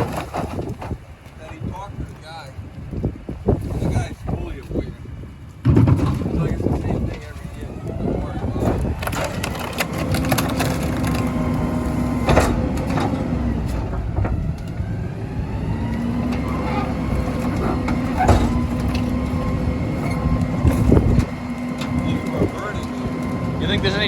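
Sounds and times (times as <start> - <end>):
garbage truck engine and packer: 0.0 - 1.2, 5.6 - 24.0.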